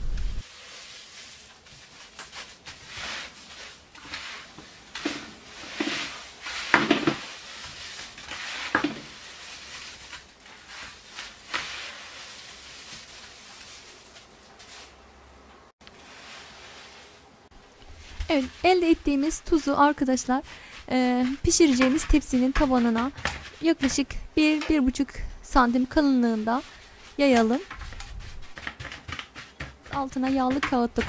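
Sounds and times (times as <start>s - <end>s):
hands kneading wet salt: 0.4s - 15.0s, 15.9s - 31.0s.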